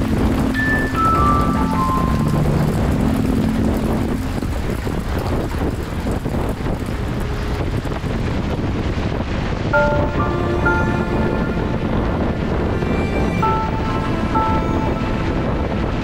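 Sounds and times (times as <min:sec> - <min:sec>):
background music low notes: 0:00.0 - 0:16.0
tyres on wet road: 0:00.0 - 0:16.0
wind rushing: 0:00.0 - 0:16.0.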